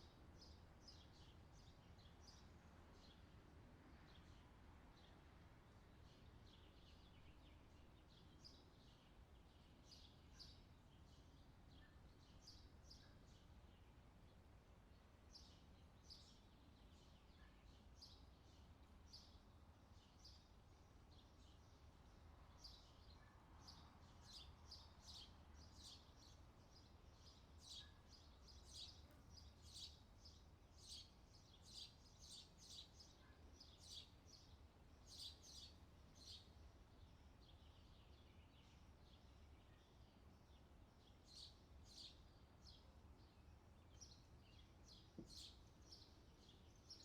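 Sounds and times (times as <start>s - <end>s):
small birds chirping: 6.1s - 47.0s.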